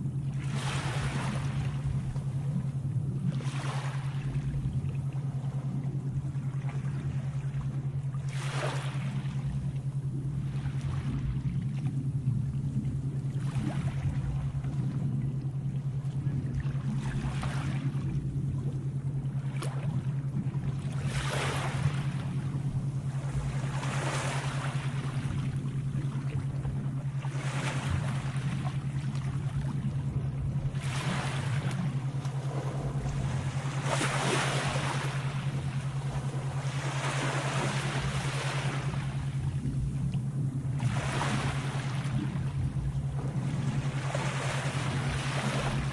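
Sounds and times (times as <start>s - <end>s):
sea waves washing in: 0.0s - 45.9s
steady low drone: 0.0s - 45.9s.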